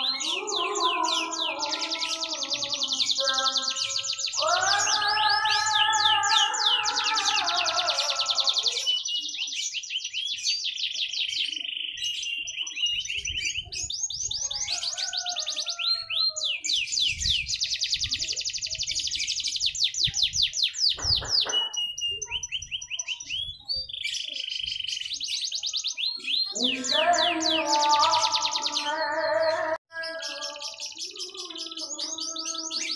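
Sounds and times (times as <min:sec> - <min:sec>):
canary singing: 0:00.0 - 0:32.9.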